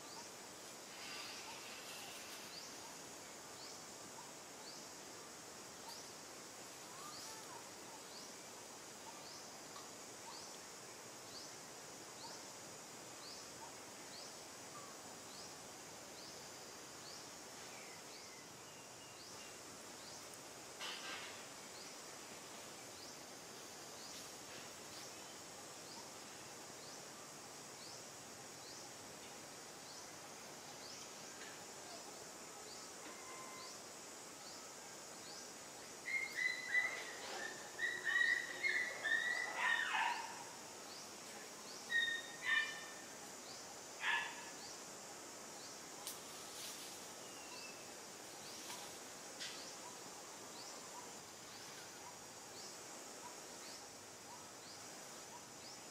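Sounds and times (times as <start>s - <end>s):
faint insect chirps: 0.0s - 55.9s
steady insect hum: 0.0s - 55.9s.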